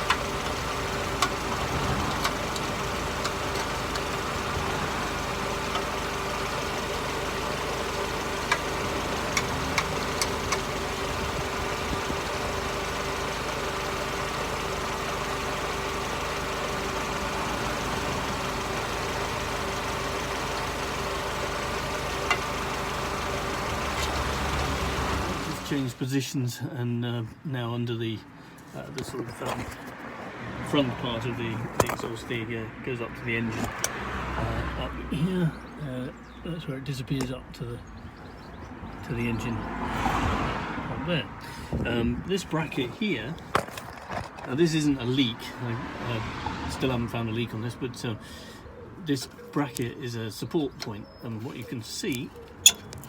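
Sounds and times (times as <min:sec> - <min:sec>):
car engine idling: 0:00.0 - 0:26.1, 0:28.4 - 0:40.2, 0:41.0 - 0:53.0.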